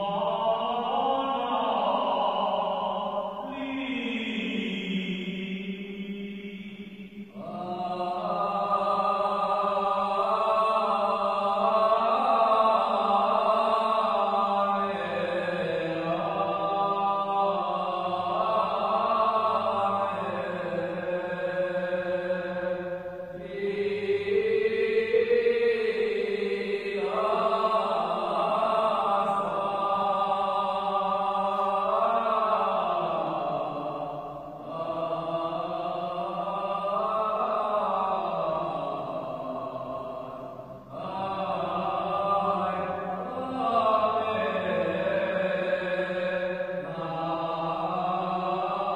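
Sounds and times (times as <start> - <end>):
clergy chanting: 0.0 - 48.9.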